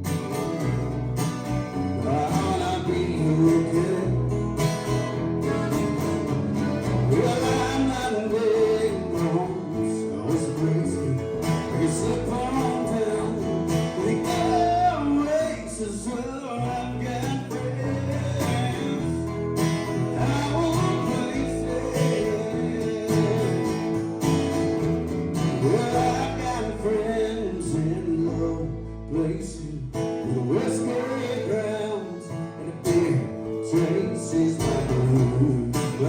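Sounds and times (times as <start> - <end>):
country song with acoustic guitar: 0.0 - 36.0.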